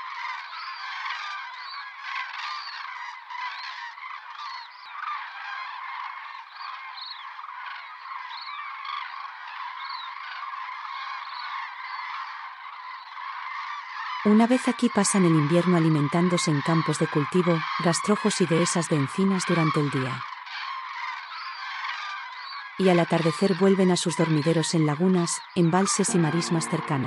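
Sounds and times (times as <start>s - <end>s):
cranes trumpeting calls: 0.0s - 27.0s.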